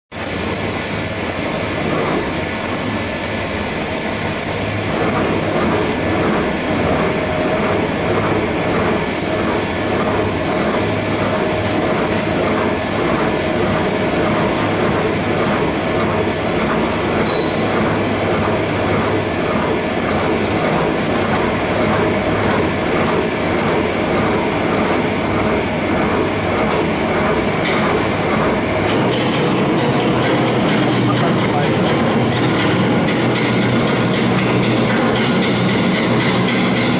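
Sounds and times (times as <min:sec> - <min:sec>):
loud mechanical rattle: 0:00.2 - 0:36.9.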